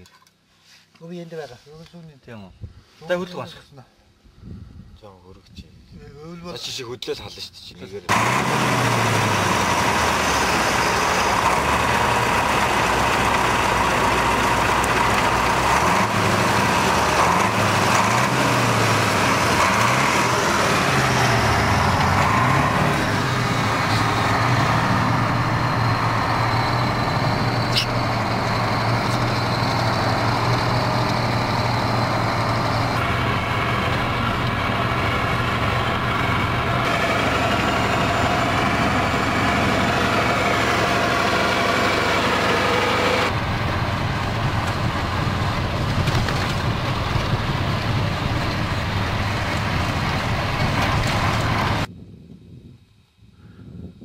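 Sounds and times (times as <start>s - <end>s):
truck diesel engine running: 8.1s - 51.9s.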